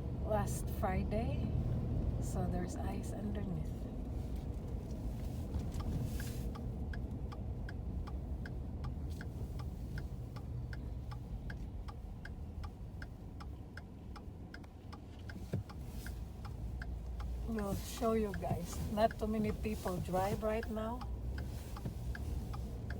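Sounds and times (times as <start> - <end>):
car interior rumble: 0.0 - 22.9
turn signal ticking: 0.0 - 22.9.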